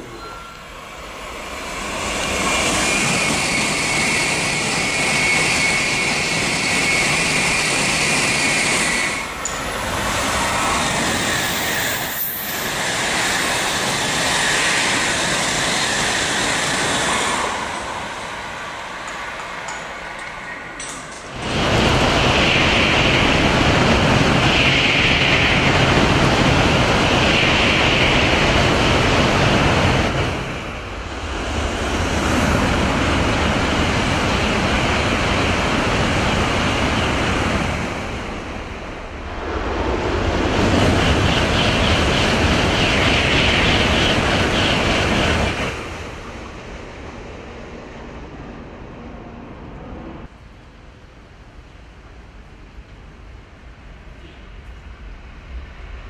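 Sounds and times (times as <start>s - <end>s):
bullet train passing at speed: 0.0s - 56.0s.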